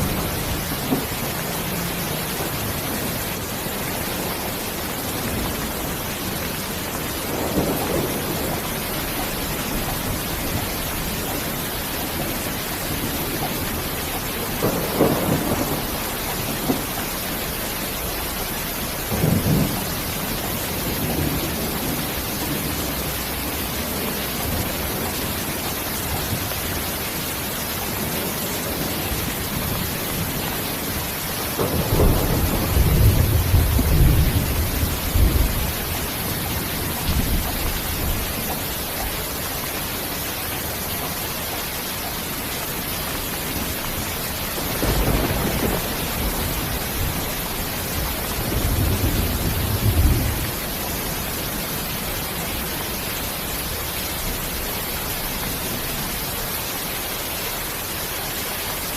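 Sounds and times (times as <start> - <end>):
thunder rumbling: 0.0 - 56.4
steady rain: 0.0 - 58.9.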